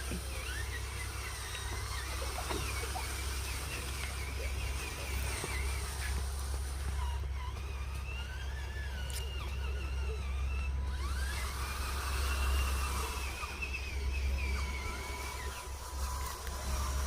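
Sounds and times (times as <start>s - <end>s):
model bulldozer motor whine: 0.0s - 17.0s.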